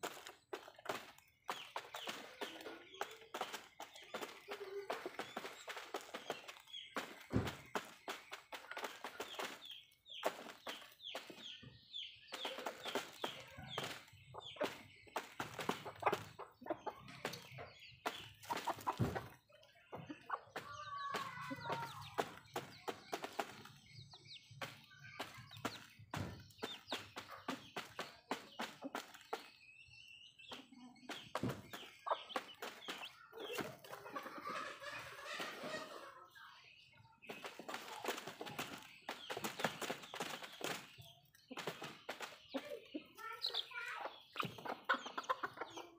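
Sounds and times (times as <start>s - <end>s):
beaks pecking on ground: 0.0s - 45.9s
chickens clucking: 0.0s - 45.9s.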